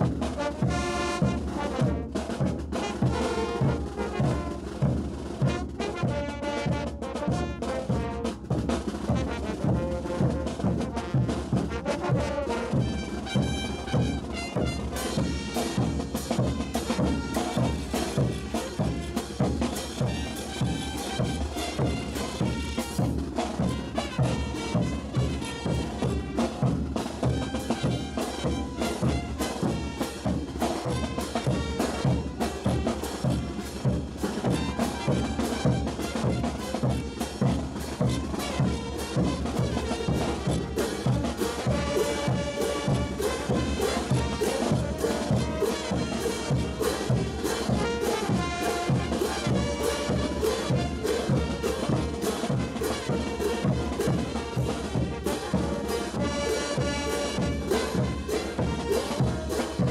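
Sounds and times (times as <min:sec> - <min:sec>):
brass band playing dance music: 0:00.0 - 0:59.9.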